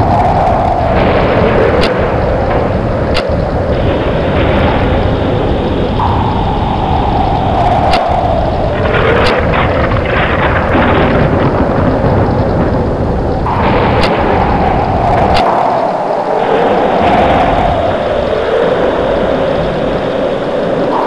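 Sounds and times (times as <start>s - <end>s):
heavy rumble and rushing noise: 0.0s - 21.0s
moaning falling tone: 0.0s - 21.0s
thunder cracks: 0.0s - 21.0s.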